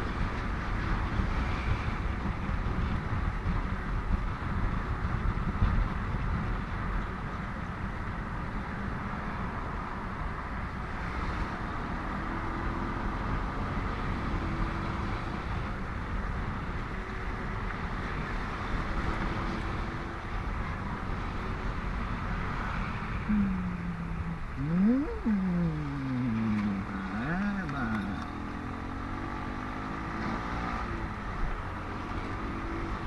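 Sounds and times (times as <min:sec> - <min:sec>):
motorcycle riding noise: 0:00.0 - 0:33.0
passing vehicle engines: 0:00.0 - 0:33.0.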